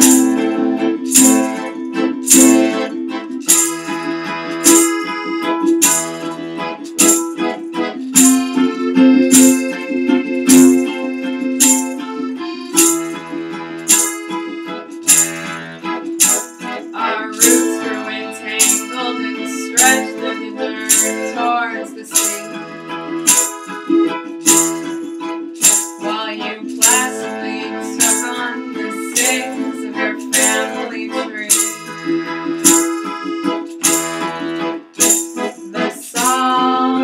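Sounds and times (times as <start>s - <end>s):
percussive beat: 0.0s - 21.3s, 22.1s - 30.8s, 31.4s - 36.6s
reedy melody: 0.0s - 37.0s.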